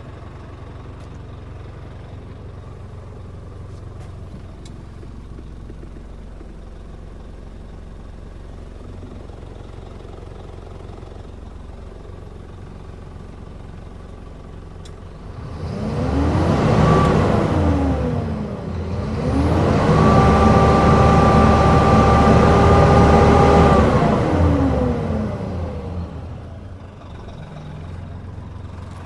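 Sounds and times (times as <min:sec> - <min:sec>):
diesel truck engine idling and revving: 0:00.0 - 0:29.0.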